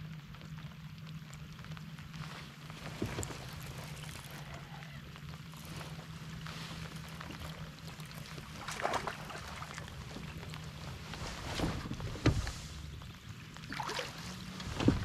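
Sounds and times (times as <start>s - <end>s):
water and rain hissing: 0.0s - 15.0s.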